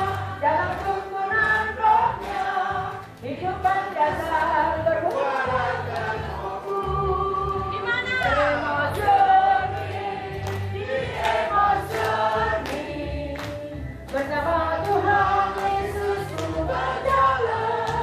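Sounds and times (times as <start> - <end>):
hand clapping: 0.0 - 7.1, 9.7 - 18.0
accompanying music: 0.0 - 18.0
group singing a worship song: 0.0 - 18.0.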